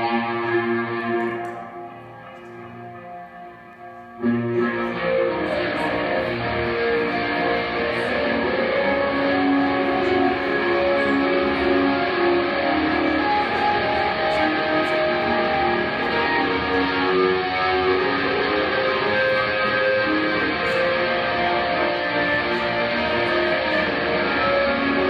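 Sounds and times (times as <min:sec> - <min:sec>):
electric guitar: 0:00.0 - 0:25.0.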